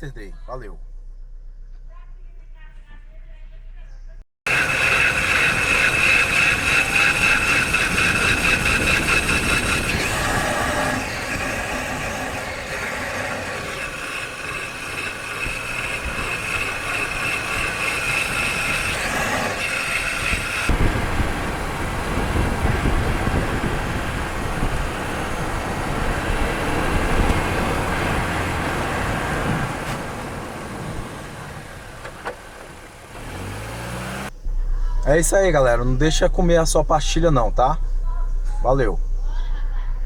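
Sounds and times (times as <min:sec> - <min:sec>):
tyres rumbling on road: 0:04.4 - 0:40.0
wheel squealing: 0:04.5 - 0:40.0.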